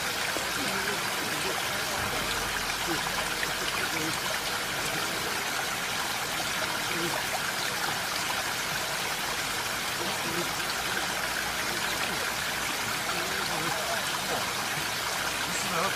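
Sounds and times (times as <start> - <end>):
water rushing hiss: 0.0 - 15.9.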